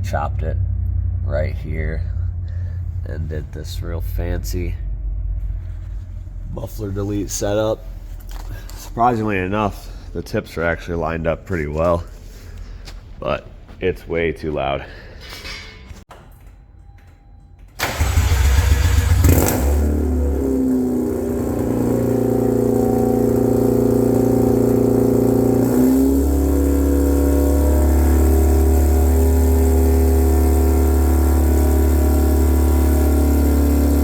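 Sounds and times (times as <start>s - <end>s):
car engine starting and idling: 0.0s - 12.4s, 16.3s - 34.0s.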